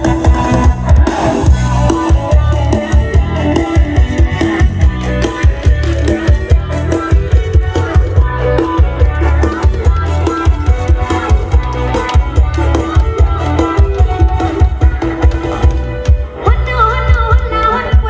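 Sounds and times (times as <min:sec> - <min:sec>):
loud bass-heavy music: 0:00.0 - 0:18.0.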